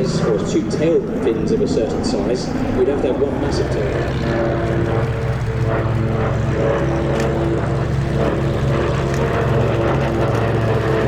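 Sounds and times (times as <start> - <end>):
propeller aircraft engine drone: 0.0 - 11.0.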